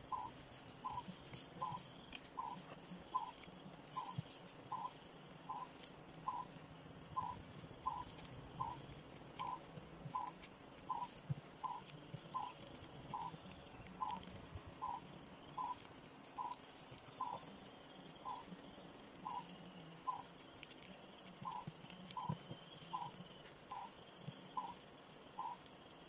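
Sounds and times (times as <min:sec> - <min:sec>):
small animal calling: 0:00.0 - 0:26.0.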